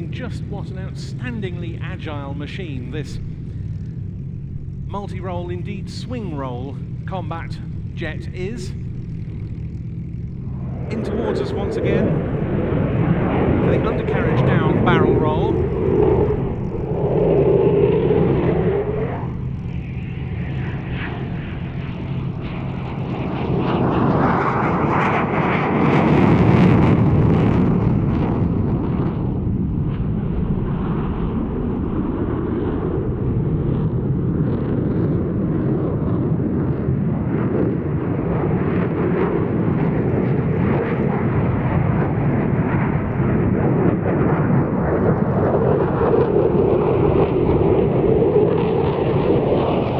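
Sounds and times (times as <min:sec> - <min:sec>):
jet engine roar: 0:00.0 - 0:49.9.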